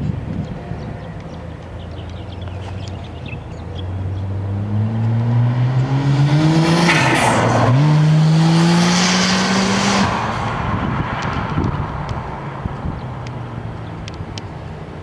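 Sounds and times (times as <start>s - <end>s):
car engine accelerating: 1.0s - 15.0s.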